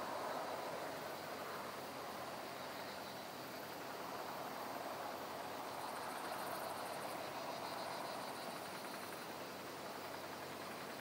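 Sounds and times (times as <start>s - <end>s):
breeze through grass and trees: 0.0s - 11.0s.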